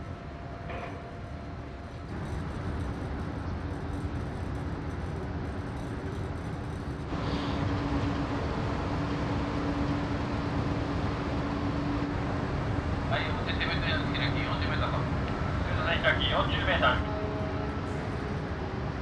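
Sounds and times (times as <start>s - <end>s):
constant hum: 0.0s - 19.0s
ferry machinery rumble: 0.0s - 19.0s.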